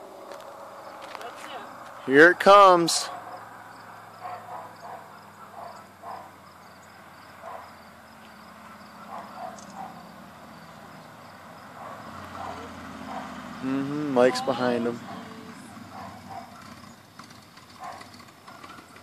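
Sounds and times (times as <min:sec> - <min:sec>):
distant engine drone: 0:00.0 - 0:19.0
insects chirping: 0:00.0 - 0:19.0.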